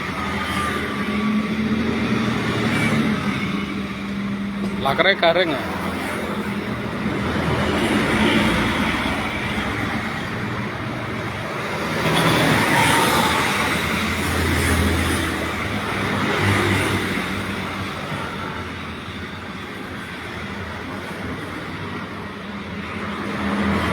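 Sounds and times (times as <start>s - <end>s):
motor vehicle noise: 0.0s - 23.9s.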